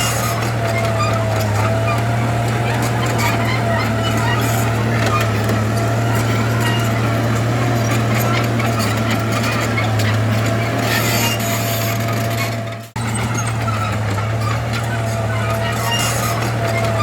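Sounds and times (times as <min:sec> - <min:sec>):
heavy diesel engine humming: 0:00.0 - 0:17.0.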